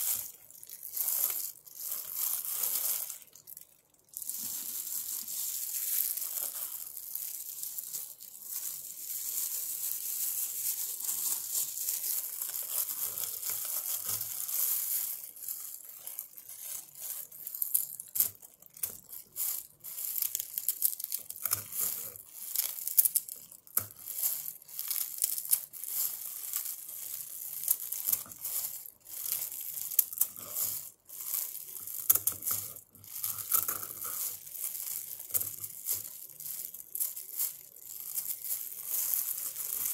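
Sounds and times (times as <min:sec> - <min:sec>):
rustling handling noise: 0:00.0 - 0:39.9.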